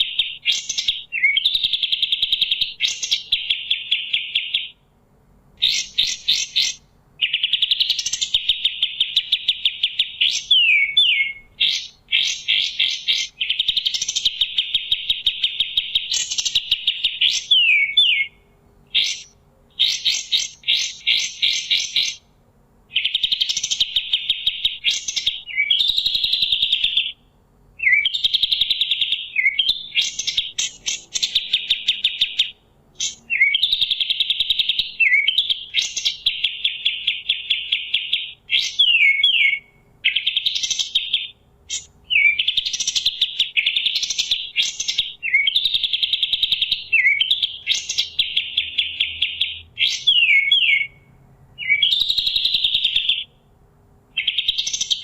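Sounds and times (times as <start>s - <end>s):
songbird singing trills: 0.0s - 5.0s, 5.6s - 53.5s, 54.1s - 55.0s.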